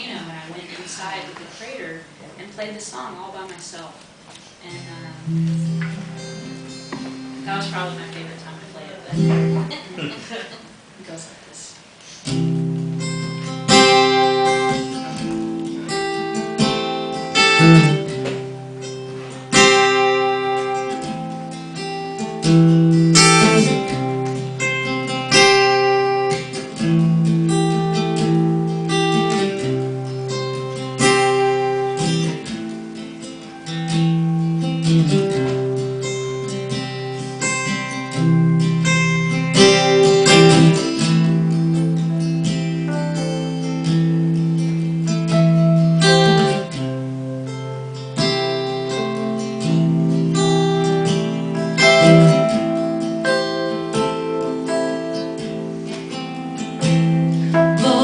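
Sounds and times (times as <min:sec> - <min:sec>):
acoustic guitar strumming: 0:00.0 - 0:10.9, 0:12.0 - 0:58.0.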